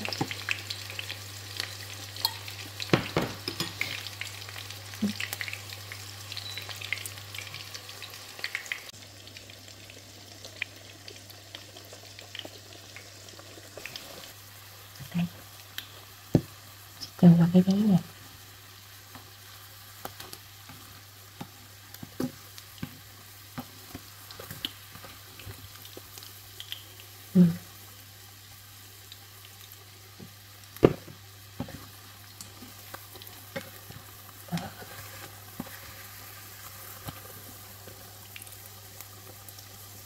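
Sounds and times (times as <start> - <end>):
fritters sizzling in oil: 0.0 - 40.0.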